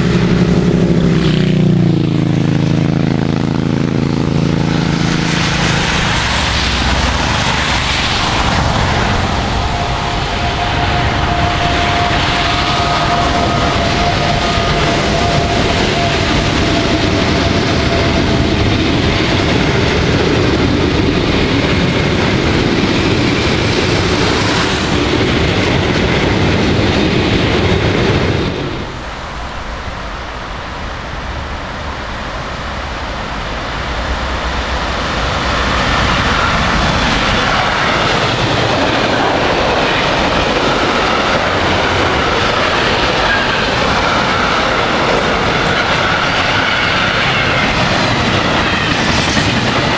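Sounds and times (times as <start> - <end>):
train passing on rails: 0.0 - 49.9.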